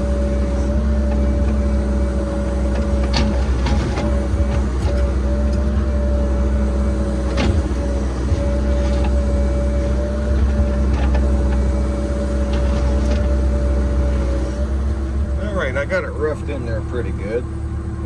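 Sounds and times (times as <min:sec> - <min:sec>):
excavator diesel engine under load: 0:00.0 - 0:18.0.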